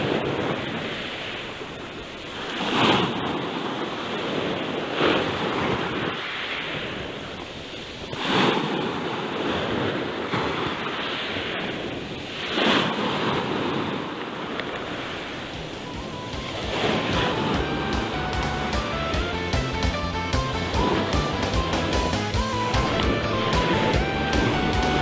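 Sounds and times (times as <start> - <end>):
surf breaking on shore: 0.0 - 25.0.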